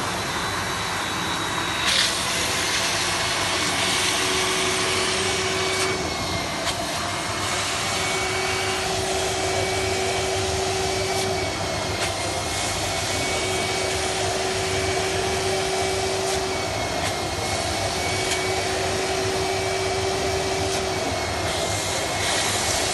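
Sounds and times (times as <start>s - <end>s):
vacuum suction motor running: 0.0s - 22.9s.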